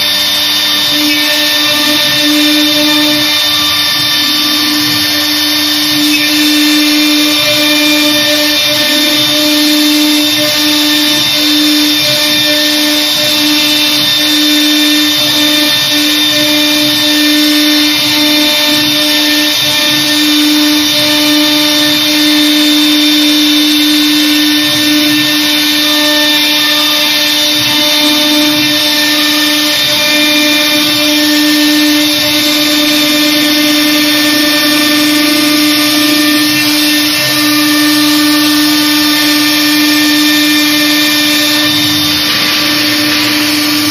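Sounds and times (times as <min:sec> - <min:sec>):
router spindle whine: 0:00.0 - 0:43.9.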